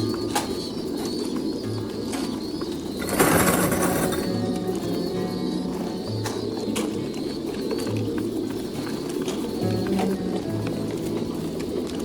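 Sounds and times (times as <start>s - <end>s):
background music: 0.0s - 12.0s
pigeons cooing: 0.0s - 12.0s.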